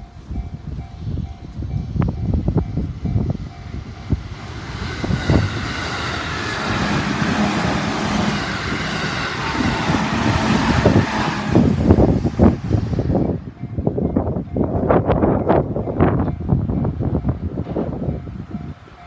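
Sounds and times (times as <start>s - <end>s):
train rushing on rails: 0.0s - 19.0s.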